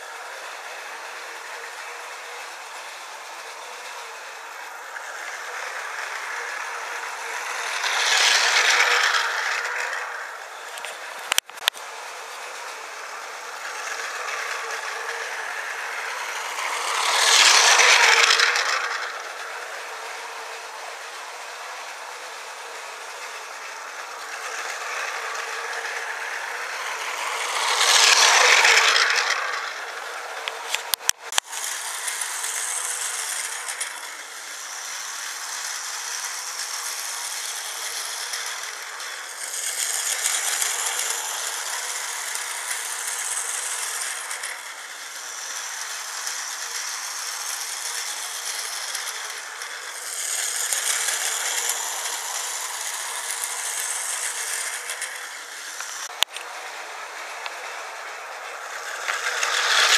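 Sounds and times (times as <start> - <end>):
toy train motor whirring: 0.0 - 59.9
toy train wheels rattling: 0.0 - 59.9.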